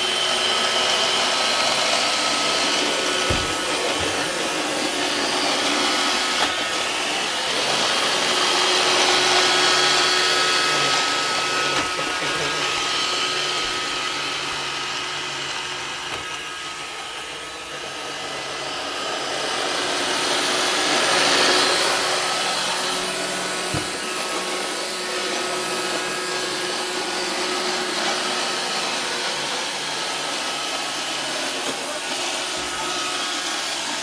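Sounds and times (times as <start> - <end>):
robot vacuum motor whine: 0.0 - 34.0.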